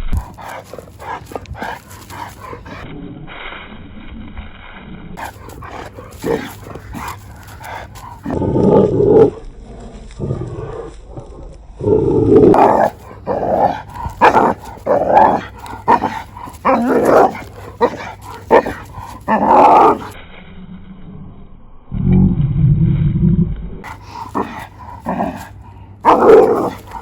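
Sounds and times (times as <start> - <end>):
dog barking and growling: 0.0 - 3.4, 5.2 - 20.2, 23.8 - 27.0.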